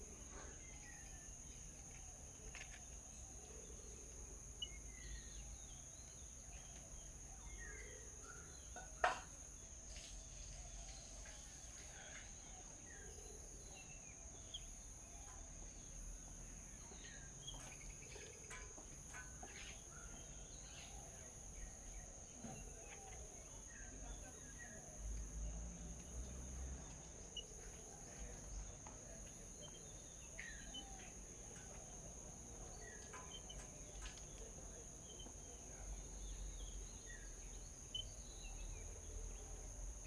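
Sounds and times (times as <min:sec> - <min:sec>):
insects droning: 0:00.0 - 0:40.0
bird chirps: 0:04.6 - 0:09.1, 0:10.0 - 0:25.6, 0:26.2 - 0:39.6.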